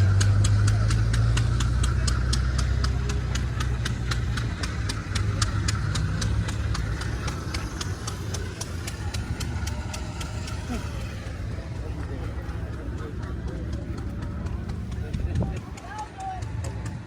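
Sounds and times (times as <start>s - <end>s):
car engine idling: 0.0s - 17.0s
rapid ticking: 0.0s - 17.0s.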